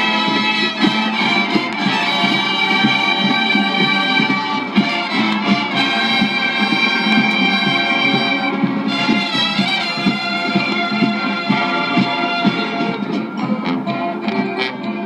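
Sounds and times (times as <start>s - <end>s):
brass holding chords: 0.0s - 15.0s
drum strokes: 0.0s - 15.0s.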